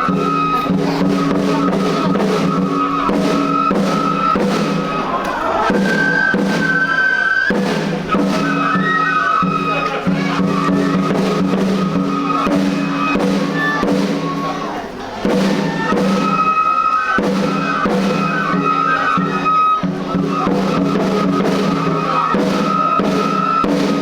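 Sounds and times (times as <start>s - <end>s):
flute high held notes: 0.0s - 14.8s, 15.6s - 23.7s
steady drum beats: 0.0s - 24.0s.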